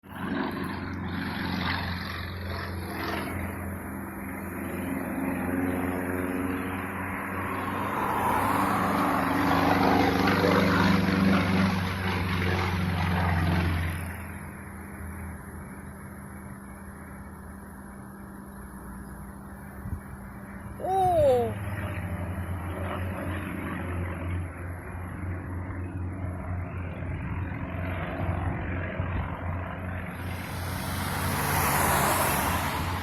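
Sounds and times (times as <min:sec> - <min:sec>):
propeller airplane engine droning: 0:00.0 - 0:33.0.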